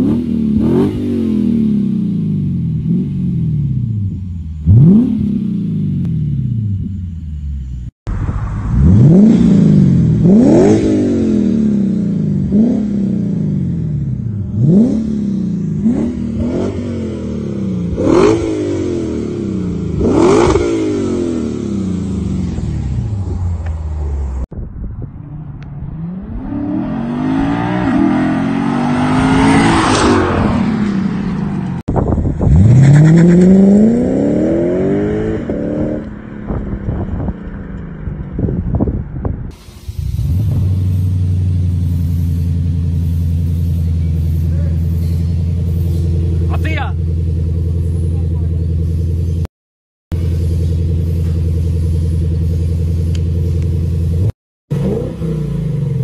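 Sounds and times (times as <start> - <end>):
car engine revving: 0.0 - 49.5, 50.1 - 56.0.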